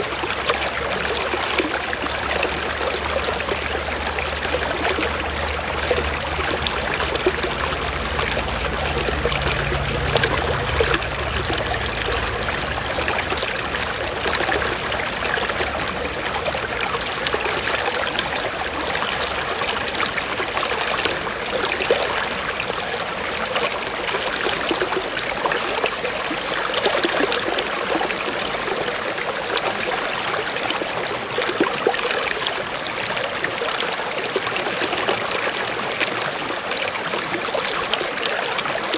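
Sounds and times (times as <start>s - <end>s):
water flowing and trickling: 0.0s - 38.9s.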